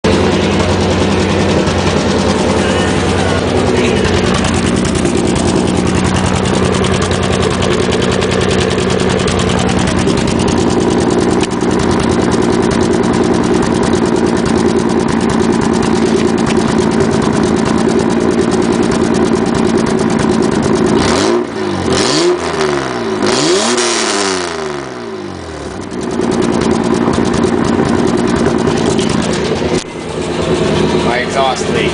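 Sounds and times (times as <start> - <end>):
car engine idling and revving: 0.0 - 31.9
leaking exhaust: 0.0 - 31.9.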